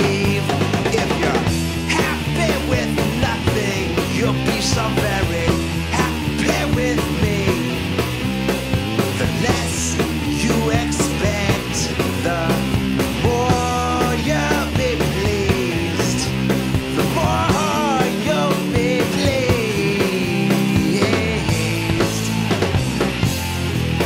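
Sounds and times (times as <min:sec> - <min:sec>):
rock music: 0:00.0 - 0:24.0.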